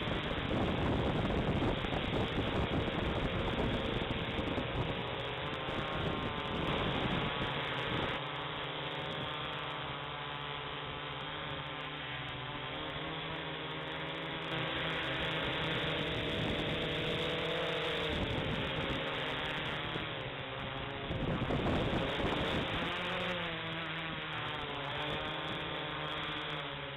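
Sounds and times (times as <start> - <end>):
quadcopter motors whirring: 0.0 - 26.9.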